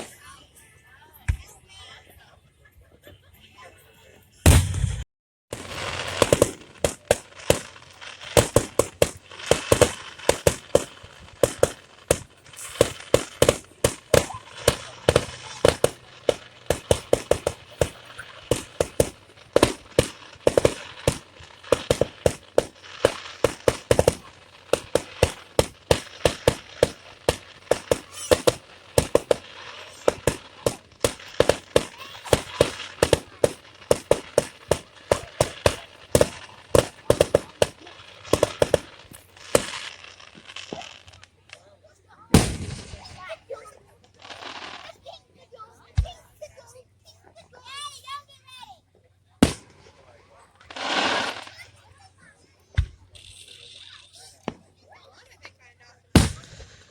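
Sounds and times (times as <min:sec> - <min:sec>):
fireworks bangs and crackles: 0:00.0 - 0:00.3, 0:04.5 - 0:45.0, 0:49.4 - 0:52.1, 0:52.7 - 0:54.8, 0:56.1 - 0:56.9.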